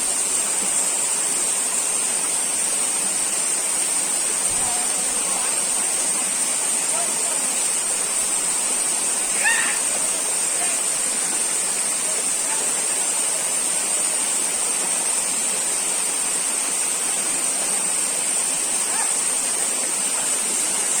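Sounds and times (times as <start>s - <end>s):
high-pitched hiss: 0.0s - 21.0s
waterfall rushing: 0.0s - 21.0s.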